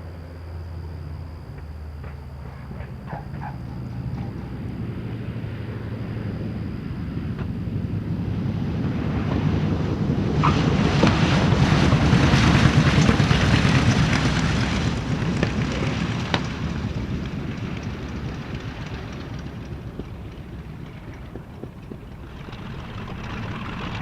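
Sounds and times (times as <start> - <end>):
radial aircraft engines roaring: 0.0 - 24.0.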